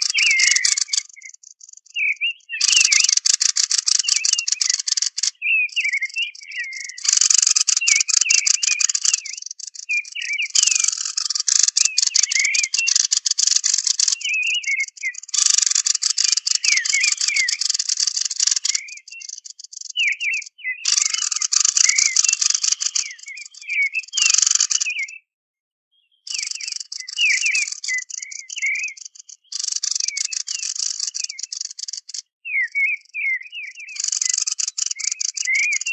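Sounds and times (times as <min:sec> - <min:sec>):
bird rattling chatter: 0:00.0 - 0:01.9, 0:02.6 - 0:06.1, 0:06.9 - 0:25.0, 0:26.3 - 0:32.2, 0:34.0 - 0:35.9
bird chirping and warbling: 0:00.0 - 0:25.3, 0:25.9 - 0:35.9.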